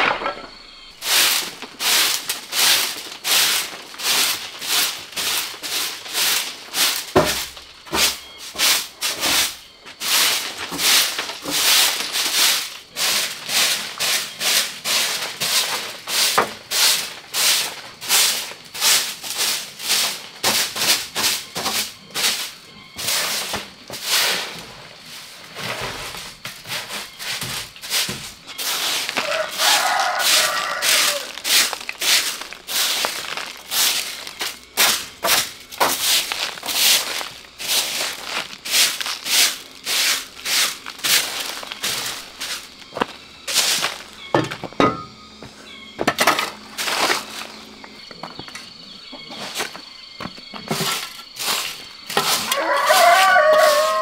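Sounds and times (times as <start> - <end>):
broom sweeping dirt floor: 0.0 - 54.0.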